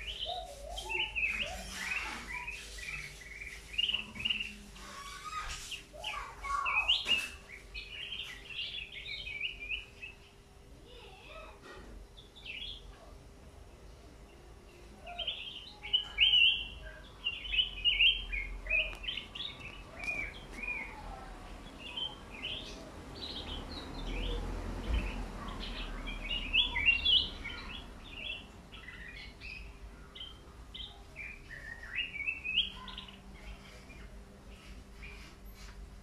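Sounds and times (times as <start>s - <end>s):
songbird singing: 0.0s - 11.4s, 12.1s - 35.8s.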